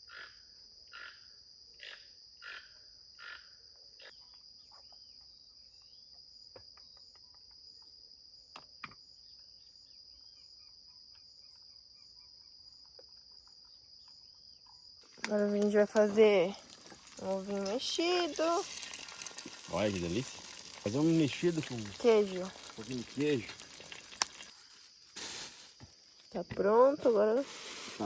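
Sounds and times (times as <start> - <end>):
high-pitched insect chorus: 1.8 - 28.0.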